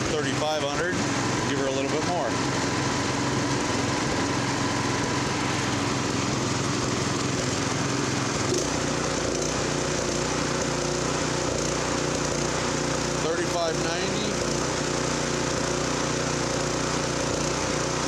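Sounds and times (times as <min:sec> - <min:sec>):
small engine running at high speed: 0:00.0 - 0:18.0.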